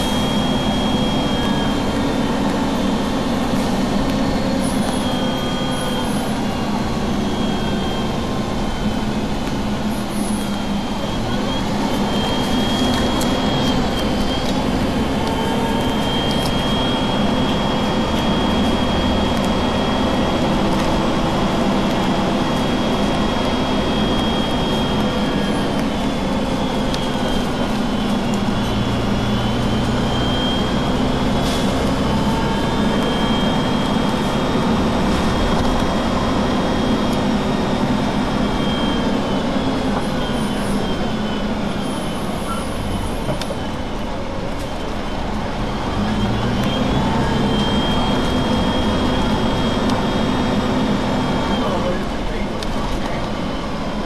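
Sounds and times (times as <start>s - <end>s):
diesel bus engine idling: 0.0s - 54.0s.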